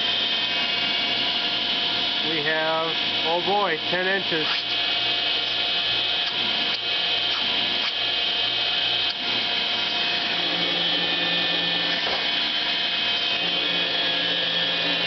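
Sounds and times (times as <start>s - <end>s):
vacuum motor whine: 0.0s - 15.0s.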